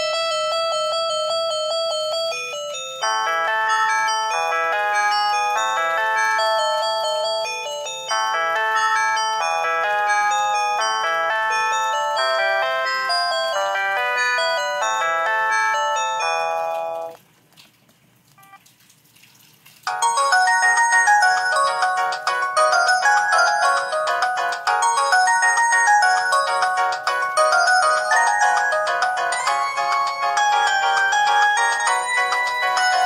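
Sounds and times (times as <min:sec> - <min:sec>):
synthesized ringtone melody: 0:00.0 - 0:17.2, 0:19.9 - 0:33.0.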